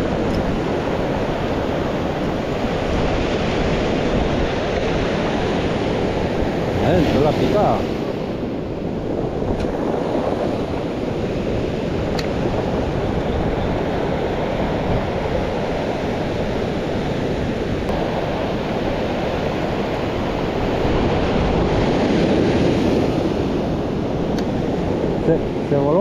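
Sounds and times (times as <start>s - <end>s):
surf washing over pebbles: 0.0s - 26.0s
wind buffeting microphone: 0.0s - 26.0s.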